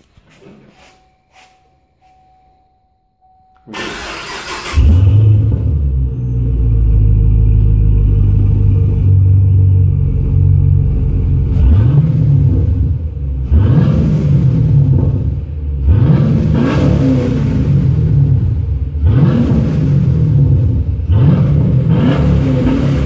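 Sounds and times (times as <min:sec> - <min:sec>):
engine revving: 0:03.8 - 0:23.0.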